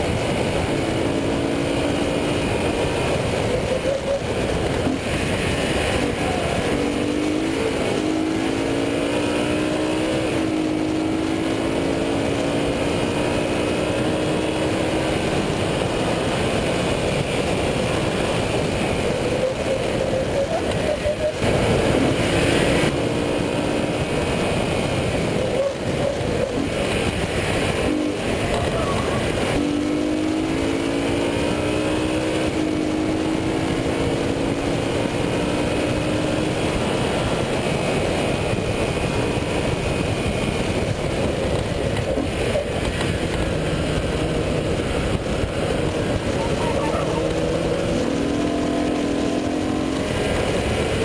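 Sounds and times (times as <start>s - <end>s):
car engine under hard driving: 0.0s - 51.0s
wind noise: 0.0s - 51.0s.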